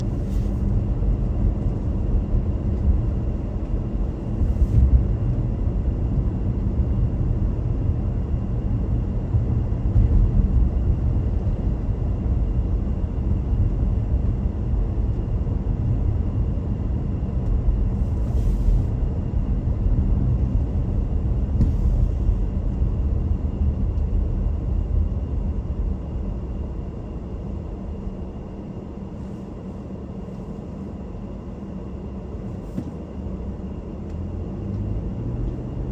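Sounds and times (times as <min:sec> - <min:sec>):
car tyres and engine rumble: 0:00.0 - 0:35.9.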